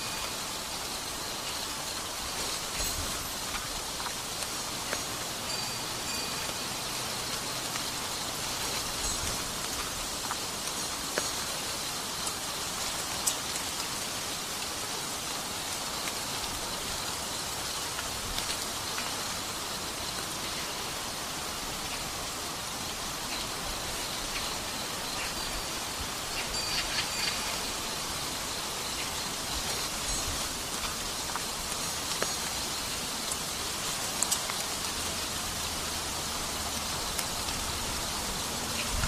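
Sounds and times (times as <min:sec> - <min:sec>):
steady rain hiss: 0:00.0 - 0:39.0
rain drop ticks: 0:01.4 - 0:21.0, 0:26.4 - 0:39.0.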